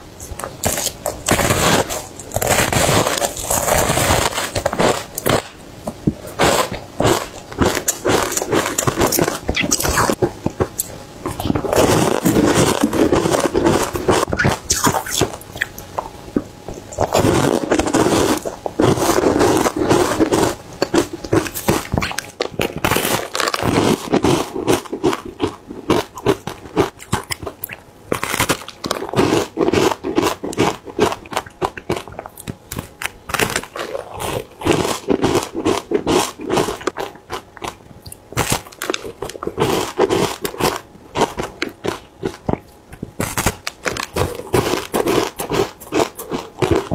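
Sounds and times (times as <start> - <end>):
crunching frozen ice: 0.3 - 5.6, 6.3 - 10.3, 11.3 - 15.7, 16.9 - 42.6, 43.2 - 46.9.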